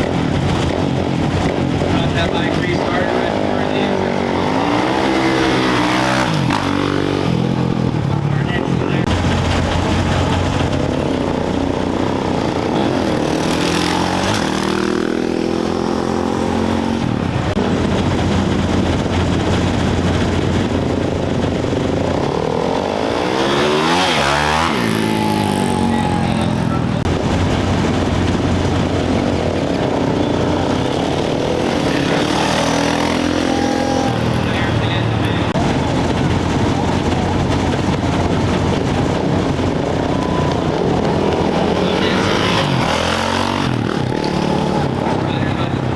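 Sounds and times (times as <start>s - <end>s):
motorcycle passing by: 0.0s - 45.9s
motorcycles revving and accelerating: 0.0s - 45.9s.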